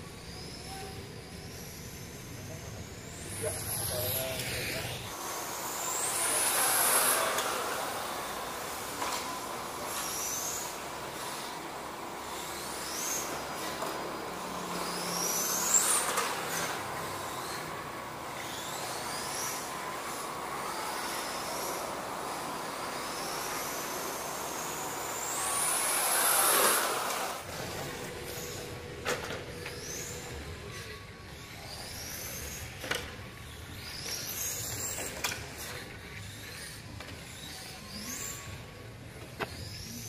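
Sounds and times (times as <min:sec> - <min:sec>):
high-pitched electric motor whine: 0:00.0 - 0:40.0.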